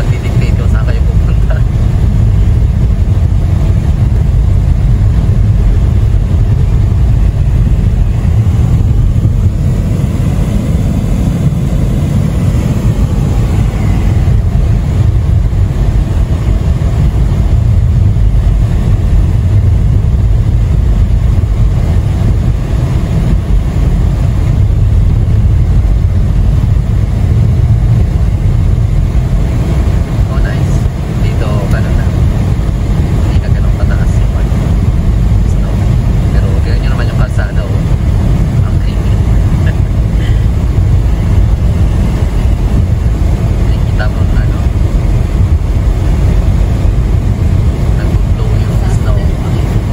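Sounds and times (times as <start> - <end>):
car road noise: 0.0 - 49.9.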